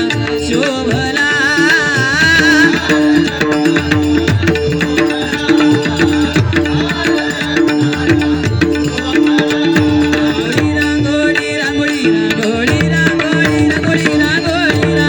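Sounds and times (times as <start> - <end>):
hand drums fast rhythm: 0.0 - 15.0.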